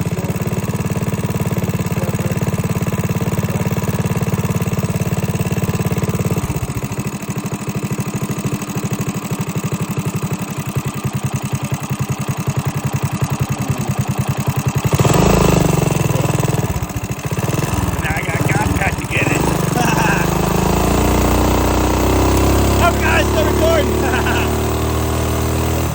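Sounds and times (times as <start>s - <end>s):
small engine running and revving: 0.0s - 25.9s.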